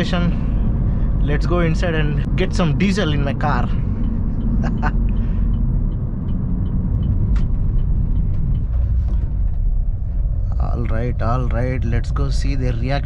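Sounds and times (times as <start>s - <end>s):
diesel car driving slowly: 0.0s - 13.0s.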